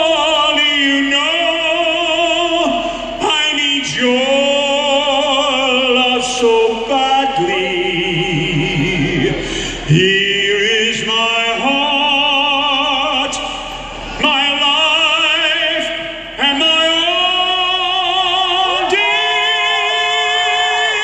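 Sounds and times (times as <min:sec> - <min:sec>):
man singing a cappella: 0:00.0 - 0:21.0.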